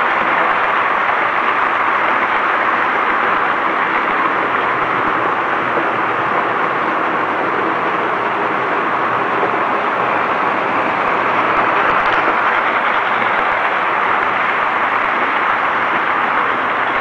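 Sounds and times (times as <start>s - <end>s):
model trains whirring on rails: 0.0s - 17.0s.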